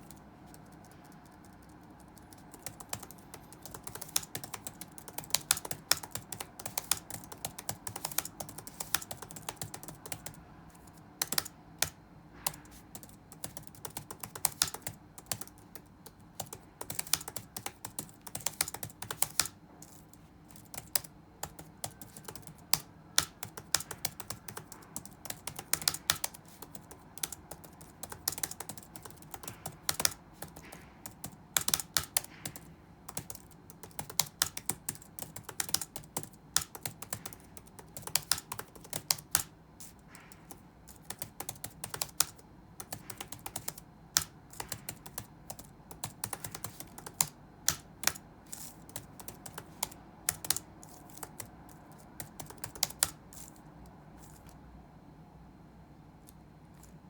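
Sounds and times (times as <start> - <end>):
computer keyboard typing: 0.0 - 54.6
faint background hum: 0.0 - 57.0.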